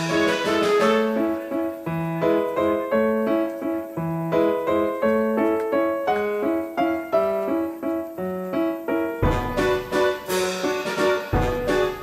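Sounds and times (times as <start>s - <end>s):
piano notes: 0.0s - 12.0s.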